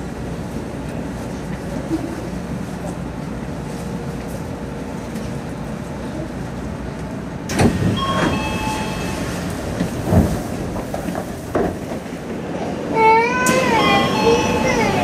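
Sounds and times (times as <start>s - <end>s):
electric train running slowly: 0.0s - 15.0s.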